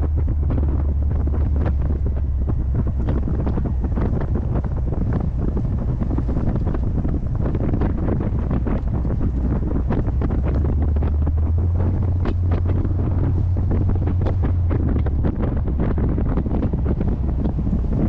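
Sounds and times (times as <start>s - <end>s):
car engine low drone: 0.0s - 18.0s
wind buffeting microphone: 0.0s - 18.0s.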